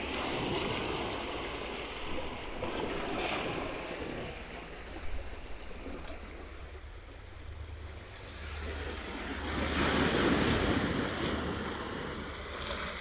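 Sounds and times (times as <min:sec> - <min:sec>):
waves washing onto beach: 0:00.0 - 0:13.0
wind rumble on microphone: 0:00.0 - 0:13.0.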